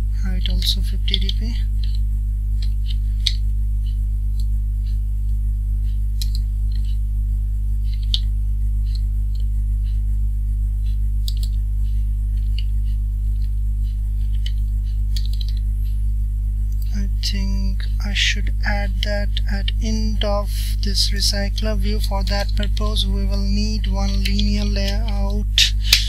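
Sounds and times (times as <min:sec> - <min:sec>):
loud steady low hum: 0:00.0 - 0:26.0.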